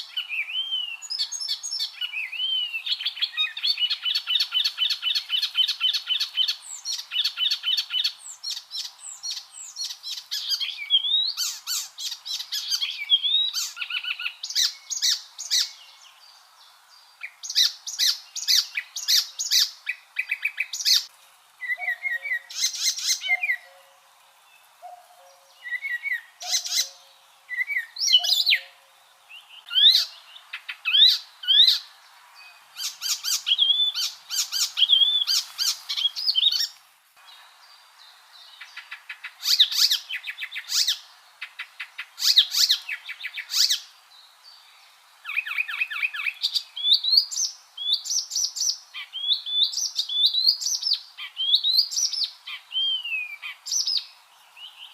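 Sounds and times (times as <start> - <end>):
warbler singing: 0.0 - 54.9.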